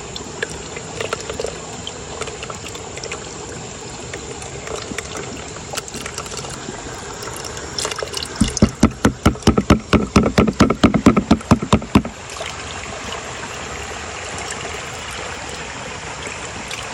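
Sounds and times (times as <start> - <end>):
shallow river rushing: 0.0 - 16.9
water sloshing in a pan: 0.0 - 16.9.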